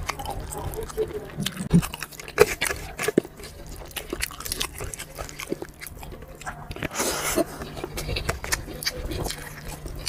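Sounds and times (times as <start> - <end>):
wet chewing and lip smacking: 0.0 - 10.0.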